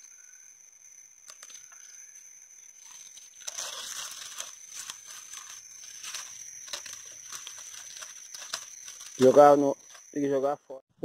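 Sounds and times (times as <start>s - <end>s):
tall grass rustling: 1.3s - 10.2s.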